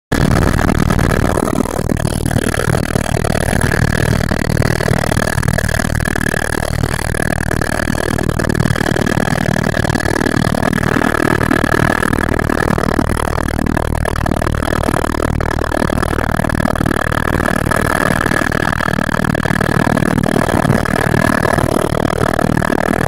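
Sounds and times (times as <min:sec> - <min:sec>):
helicopter engine and rotor: 0:02.7 - 0:13.1, 0:14.5 - 0:23.0.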